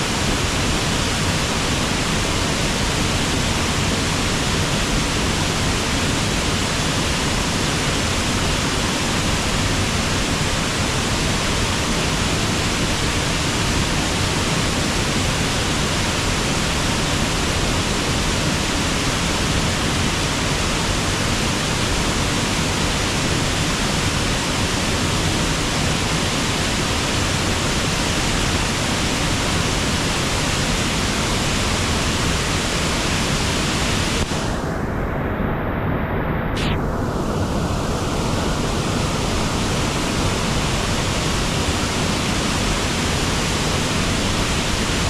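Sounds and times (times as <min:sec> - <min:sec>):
waterfall rushing: 0:00.1 - 0:34.8, 0:37.0 - 0:45.0.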